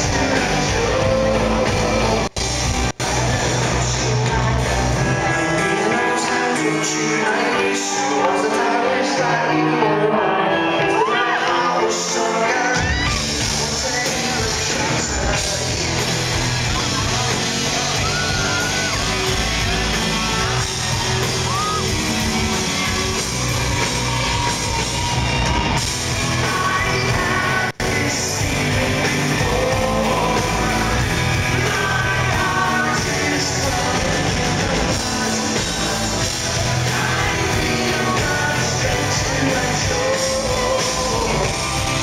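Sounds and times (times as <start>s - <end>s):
drums: 0.0s - 42.0s
electric guitars: 0.0s - 42.0s
man singing lead: 0.0s - 42.0s.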